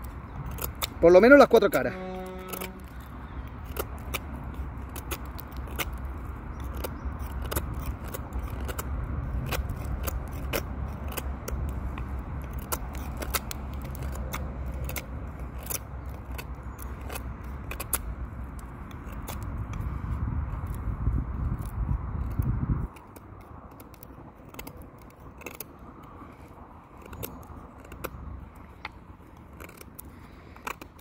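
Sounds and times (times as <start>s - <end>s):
knife shaving wood: 0.0s - 31.0s
steady low rumble: 2.0s - 31.0s.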